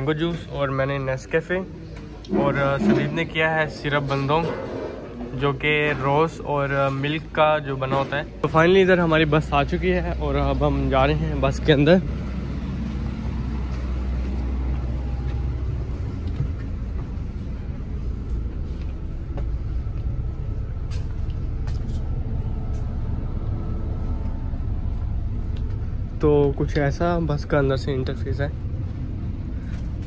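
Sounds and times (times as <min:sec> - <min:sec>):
bus engine idling: 0:00.0 - 0:30.0.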